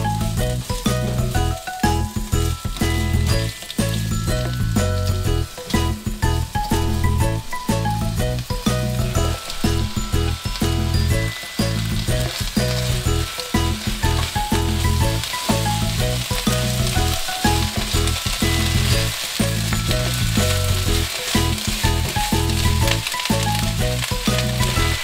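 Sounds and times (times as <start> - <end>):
background music: 0.0 - 25.0
food sizzling in a frying pan: 0.0 - 25.0
stirring in a pan: 0.3 - 25.0.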